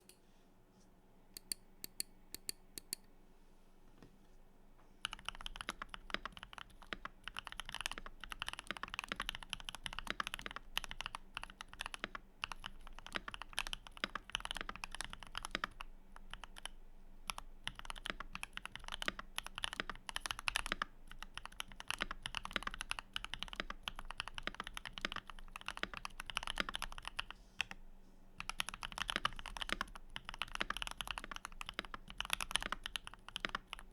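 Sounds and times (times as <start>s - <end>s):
mechanical keyboard typing: 5.0s - 27.8s, 28.4s - 33.9s.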